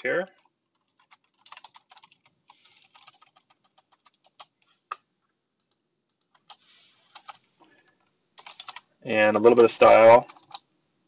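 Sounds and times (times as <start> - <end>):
computer keyboard typing: 0.3 - 5.0, 5.6 - 7.4, 8.4 - 10.7.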